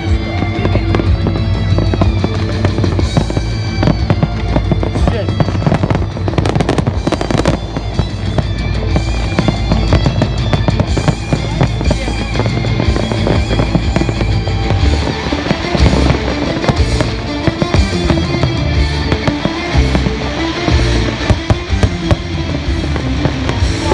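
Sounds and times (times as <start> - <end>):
fireworks bursting and crackling: 0.0 - 23.9
music: 0.0 - 23.9.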